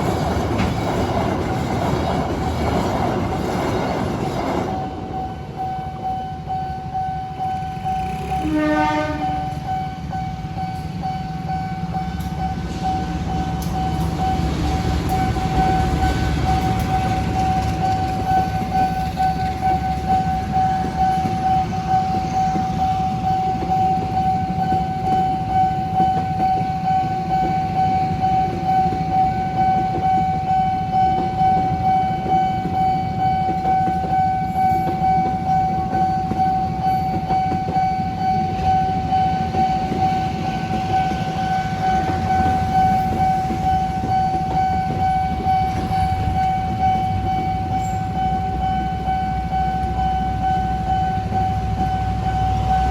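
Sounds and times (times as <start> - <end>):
level crossing alarm ringing: 0.0 - 52.9
train rumbling past: 0.0 - 52.9.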